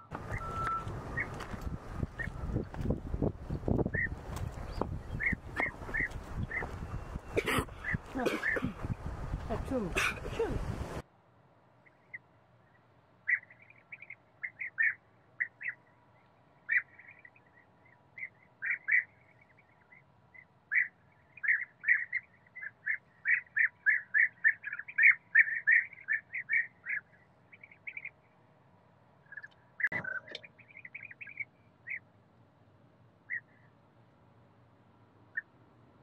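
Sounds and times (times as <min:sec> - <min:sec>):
bird chirping: 0:00.0 - 0:09.0, 0:11.8 - 0:28.4, 0:29.2 - 0:32.1, 0:33.2 - 0:33.8.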